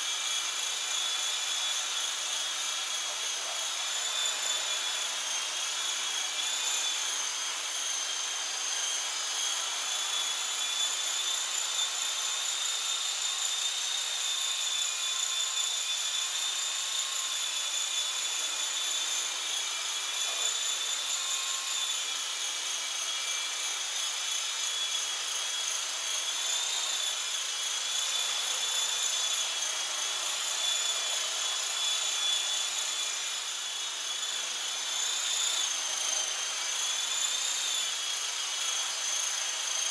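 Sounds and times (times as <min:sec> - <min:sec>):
model helicopter whine: 0:00.0 - 0:39.9.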